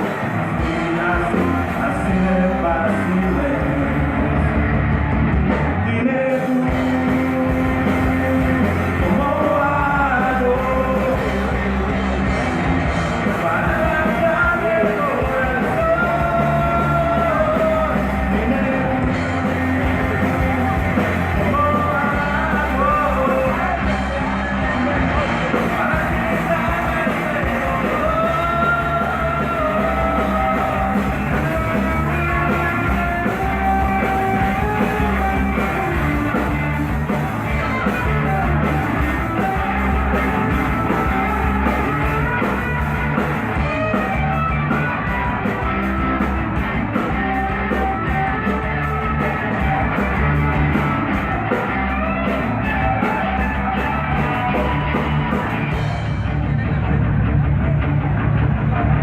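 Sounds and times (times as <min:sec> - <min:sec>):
bass: 0:00.0 - 0:59.0
drums: 0:00.0 - 0:59.0
melodic lead line: 0:06.6 - 0:57.0.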